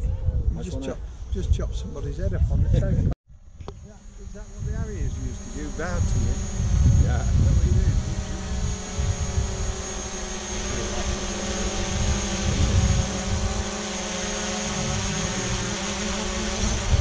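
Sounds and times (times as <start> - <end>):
drone motor whine: 3.4 - 17.0.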